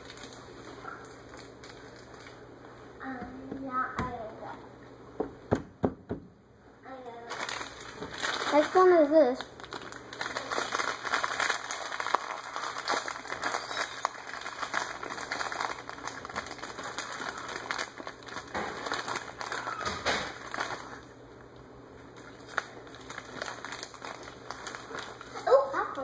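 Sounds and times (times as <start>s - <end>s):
plastic packaging crinkling: 0.0s - 2.7s, 7.0s - 26.0s.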